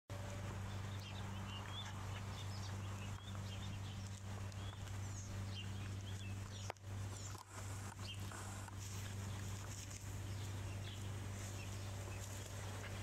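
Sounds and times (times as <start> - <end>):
small birds chirping: 0.1 - 13.0
steady low hum: 0.1 - 13.0.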